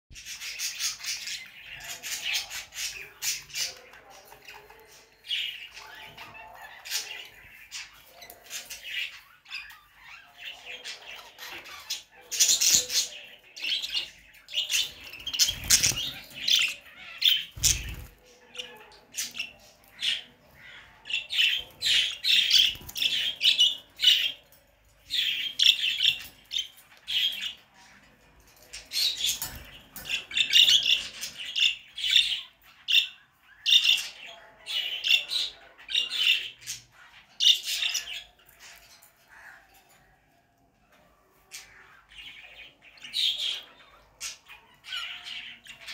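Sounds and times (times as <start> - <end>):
budgerigars chirping and squawking: 0.1 - 45.9.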